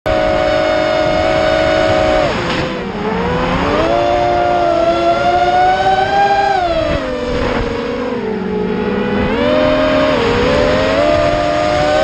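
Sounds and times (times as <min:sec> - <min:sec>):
drone motors whining: 0:00.1 - 0:12.0.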